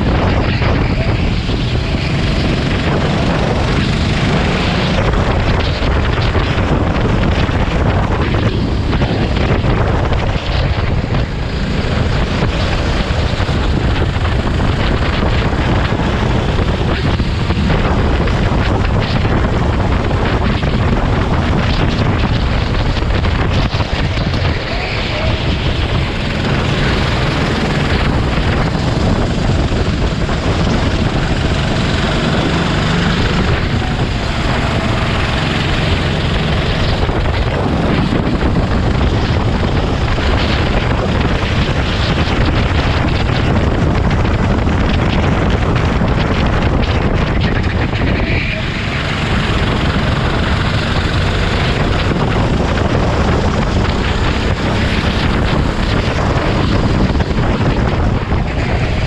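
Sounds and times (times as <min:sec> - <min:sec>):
kart engine running hard: 0:00.0 - 0:59.0
wind noise on microphone: 0:00.0 - 0:59.0.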